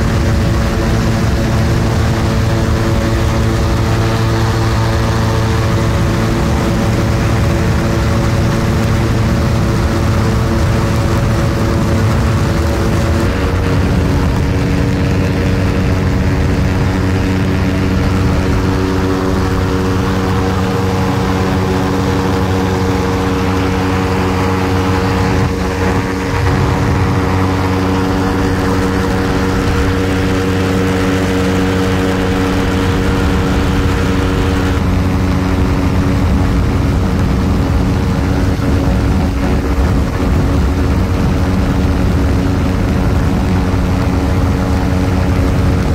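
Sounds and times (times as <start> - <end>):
aircraft engine and propeller drone: 0.0 - 45.9.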